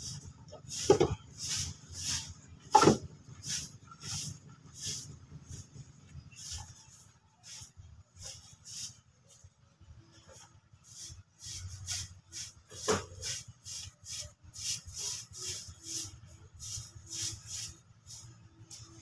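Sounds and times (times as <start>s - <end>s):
broom sweeping gravel: 0.0s - 9.5s, 10.2s - 19.0s.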